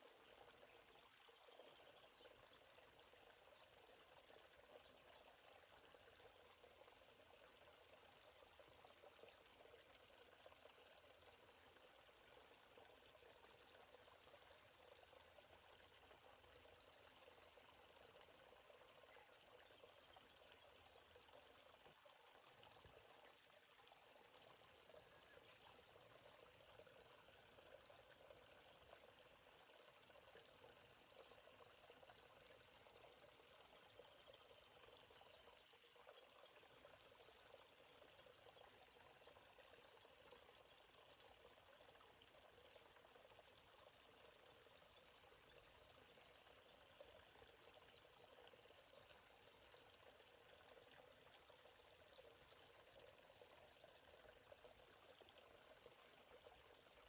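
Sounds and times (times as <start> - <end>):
faint flowing stream: 0.0 - 57.0
insects chorus: 0.0 - 57.0.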